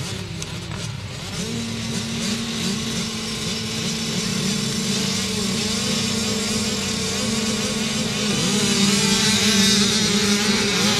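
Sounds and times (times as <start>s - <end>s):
racing motorcycle engines revving: 0.0s - 10.9s.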